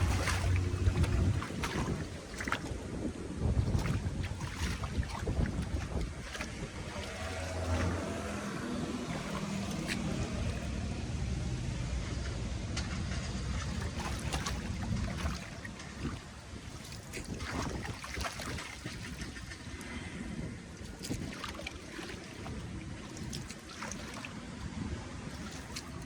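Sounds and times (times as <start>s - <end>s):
water flowing: 0.0s - 10.8s, 13.5s - 26.0s.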